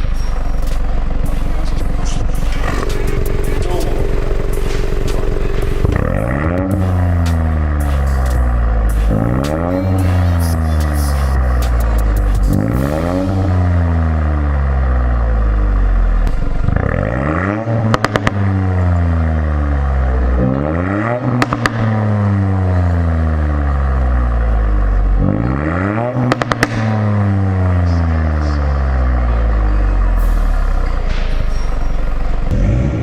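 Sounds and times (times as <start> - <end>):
car engine revving: 0.0 - 33.0
exhaust crackles: 0.0 - 33.0.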